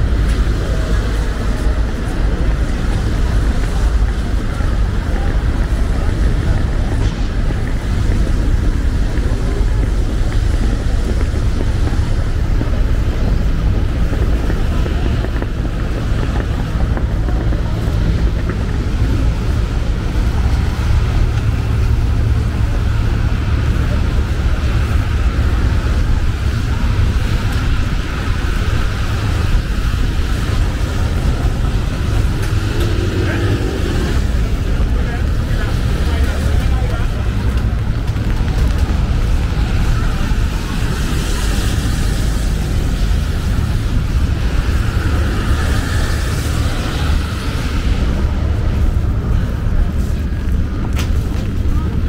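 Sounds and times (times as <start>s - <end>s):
ferry engine rumble: 0.0s - 52.0s
wind buffeting microphone: 0.0s - 52.0s.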